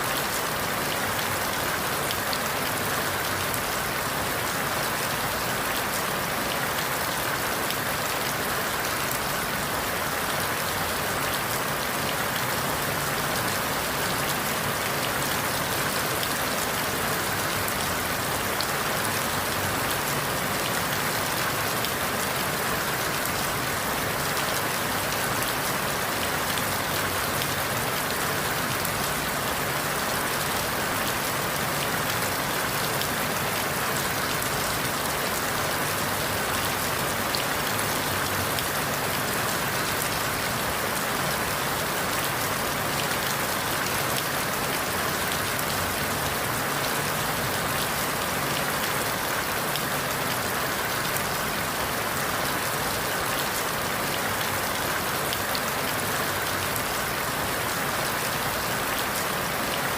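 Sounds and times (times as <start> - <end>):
rain on forest leaves: 0.0 - 59.9.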